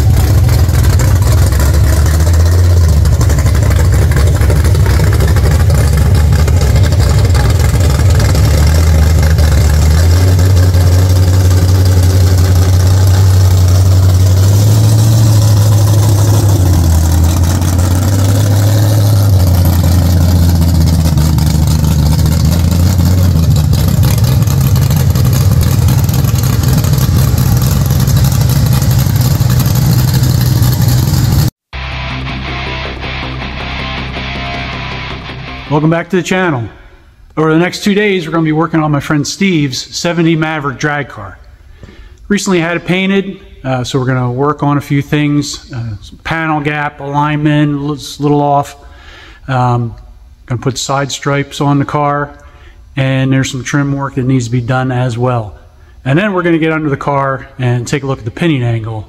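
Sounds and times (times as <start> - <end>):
car engine exhaust rumble: 0.0 - 59.0.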